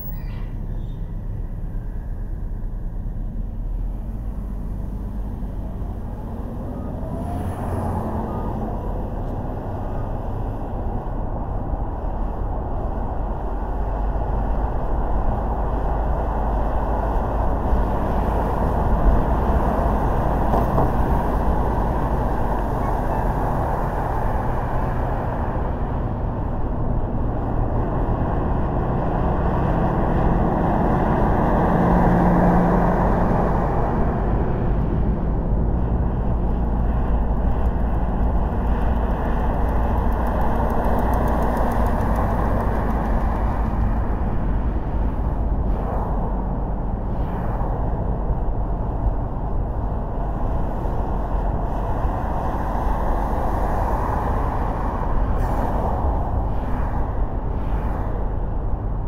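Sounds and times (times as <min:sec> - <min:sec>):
car road noise: 0:00.0 - 0:59.0.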